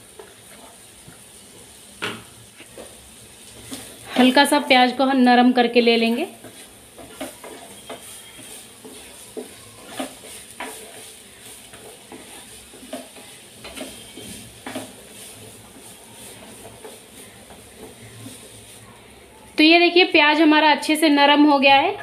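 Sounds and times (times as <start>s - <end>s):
spatula scraping frying pan: 0.0s - 5.0s, 5.7s - 18.9s
onions sizzling: 0.0s - 22.0s.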